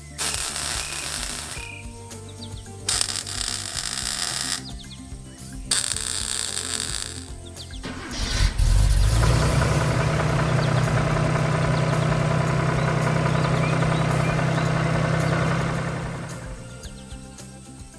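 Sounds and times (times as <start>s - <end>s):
fire truck engine running: 0.0s - 17.2s.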